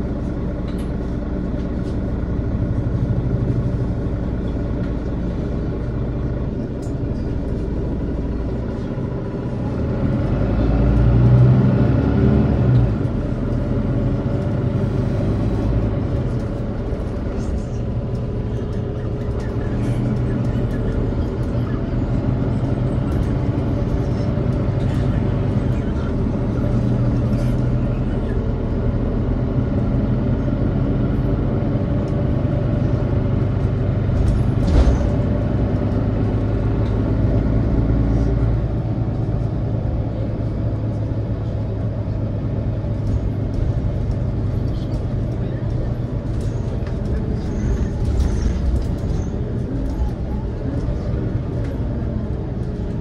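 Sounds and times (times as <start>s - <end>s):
bus engine humming: 0.0s - 53.0s.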